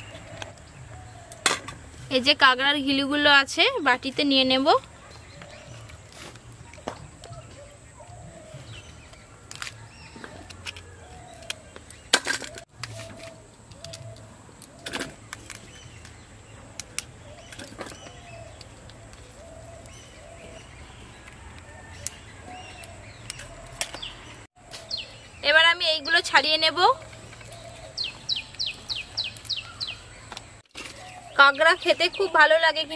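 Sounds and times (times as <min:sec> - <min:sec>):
bird chirping: 0:03.8 - 0:32.9.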